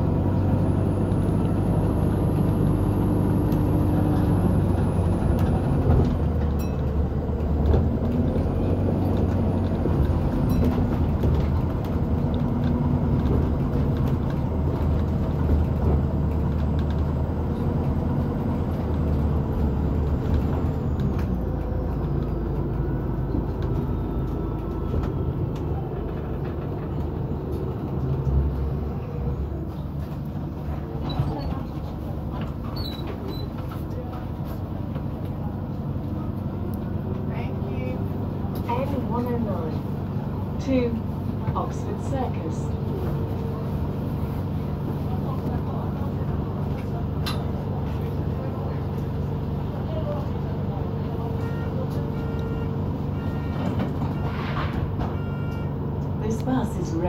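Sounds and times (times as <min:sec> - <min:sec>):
bus running rumble: 0:00.0 - 0:57.0.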